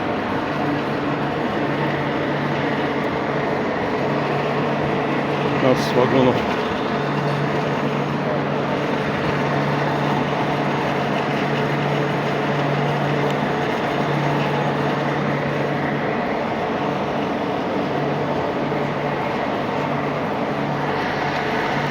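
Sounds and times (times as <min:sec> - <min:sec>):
train rumbling: 0:00.0 - 0:21.9.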